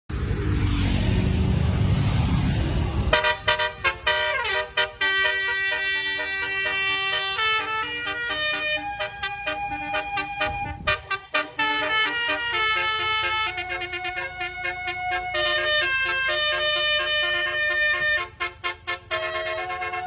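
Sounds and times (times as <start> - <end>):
vehicle engine rumble: 0.1 - 20.0
musical air horn melody: 3.1 - 20.0.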